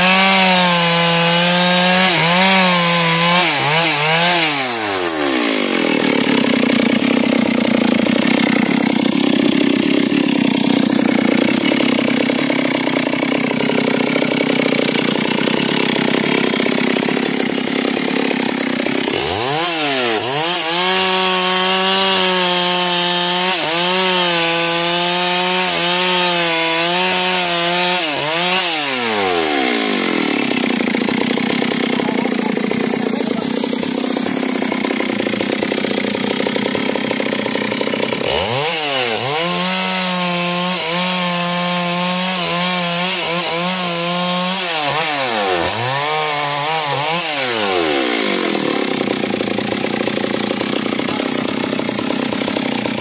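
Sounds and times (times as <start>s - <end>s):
chainsaw revving and idling: 0.0s - 53.0s.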